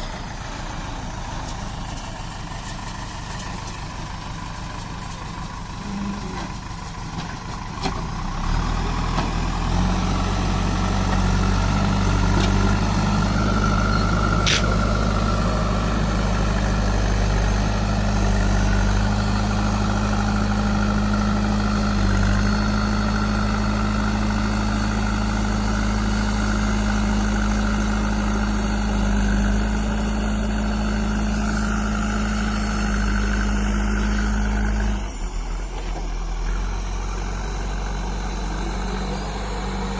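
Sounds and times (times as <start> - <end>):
diesel engine revving: 4.4 - 39.9.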